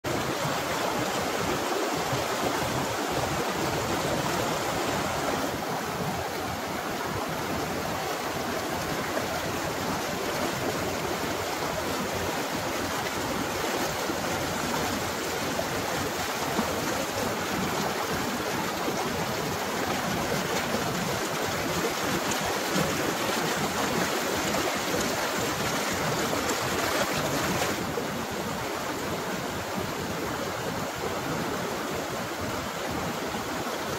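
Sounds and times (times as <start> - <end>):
stream rushing over stones: 0.0 - 33.9.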